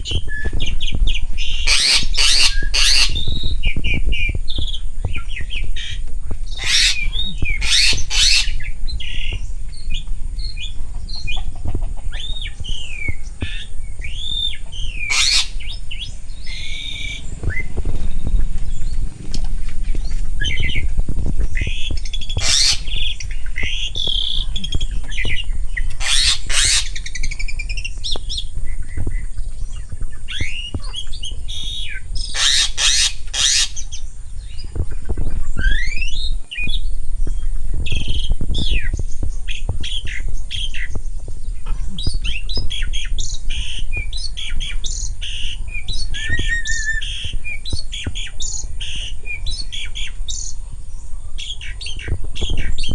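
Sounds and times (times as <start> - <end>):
birds squawking and whistling: 0.0 - 52.9.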